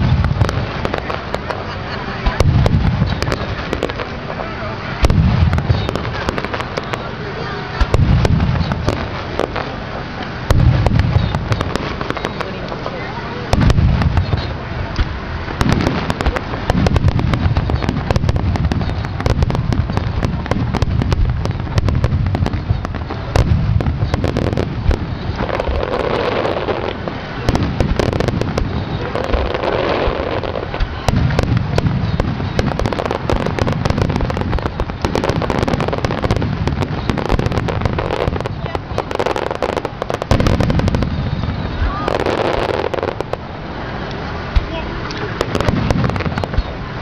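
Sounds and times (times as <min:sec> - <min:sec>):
fireworks booming bursts: 0:00.0 - 0:47.0
fireworks crackling and popping: 0:00.0 - 0:47.0.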